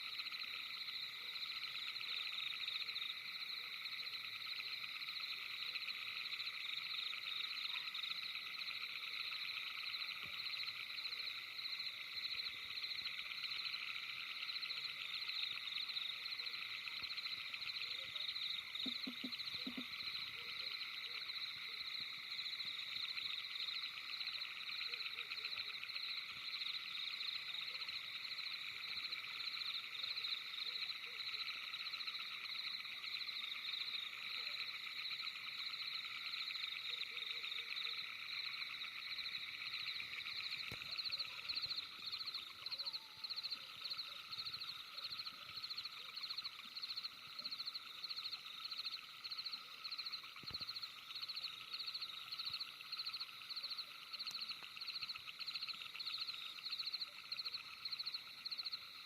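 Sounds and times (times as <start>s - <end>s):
frogs calling: 0.0s - 59.0s.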